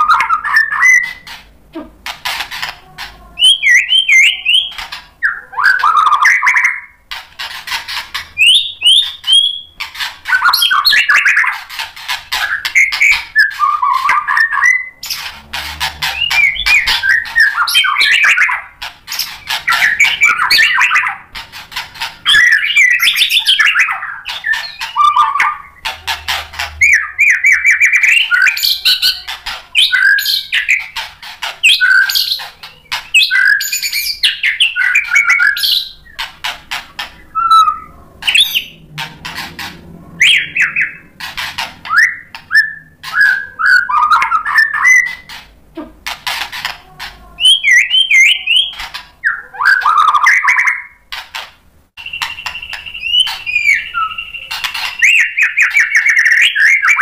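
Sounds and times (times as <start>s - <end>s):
bird singing varied song: 0.0s - 51.1s, 52.0s - 57.0s.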